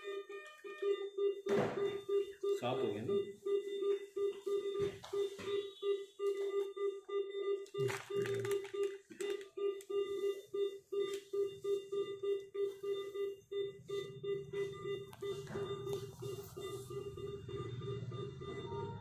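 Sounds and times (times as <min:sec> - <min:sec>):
patient monitor beeping: 0:00.0 - 0:19.0.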